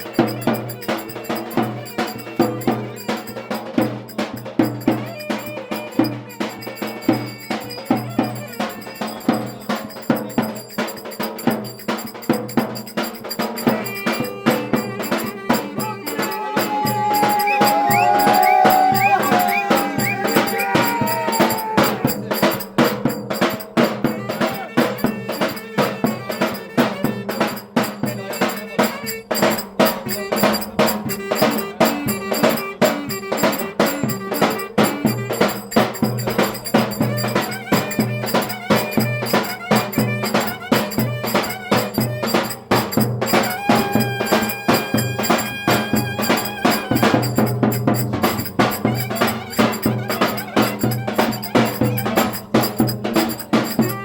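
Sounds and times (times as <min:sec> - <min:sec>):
driving drum beat: 0:00.0 - 0:54.0
folk dance music: 0:00.0 - 0:54.0.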